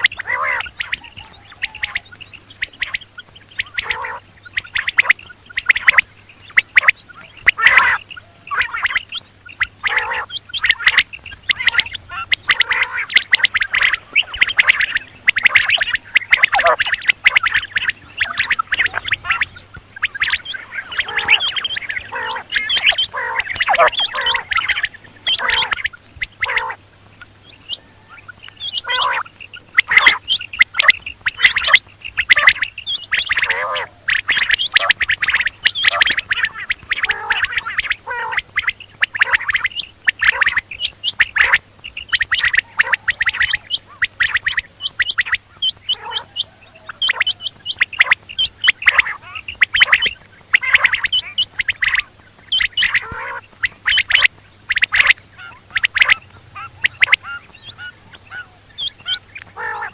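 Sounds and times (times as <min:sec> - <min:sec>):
faint low hum: 0:00.0 - 0:59.9
quail calling: 0:00.0 - 0:59.9.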